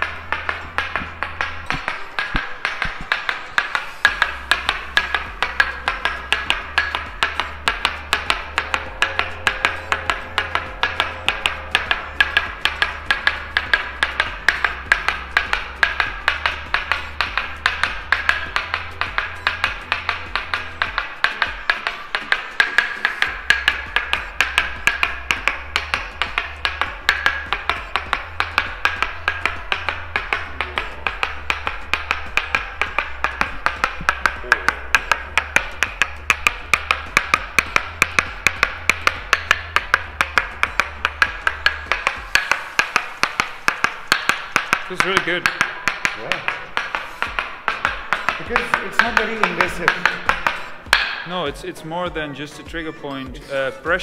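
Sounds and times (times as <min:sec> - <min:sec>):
wooden mallet tapping wooden peg: 0:00.0 - 0:52.2.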